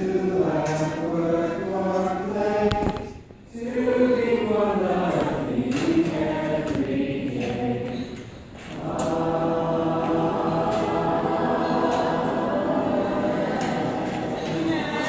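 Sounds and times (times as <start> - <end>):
children singing unaccompanied: 0.0 - 15.0.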